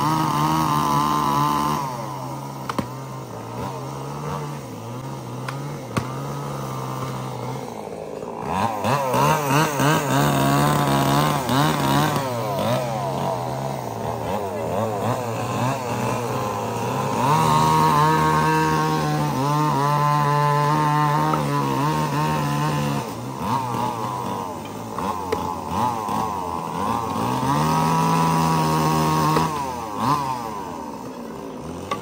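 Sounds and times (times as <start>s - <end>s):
chainsaw cutting log: 0.0s - 32.0s.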